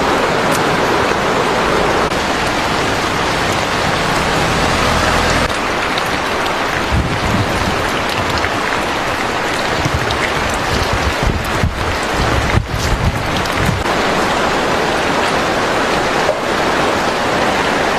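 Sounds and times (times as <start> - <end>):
rain falling: 0.0 - 17.9.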